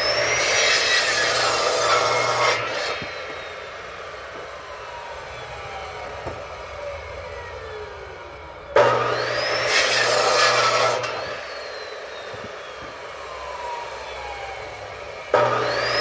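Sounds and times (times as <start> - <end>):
electric saw cutting wood: 0.0 - 16.0.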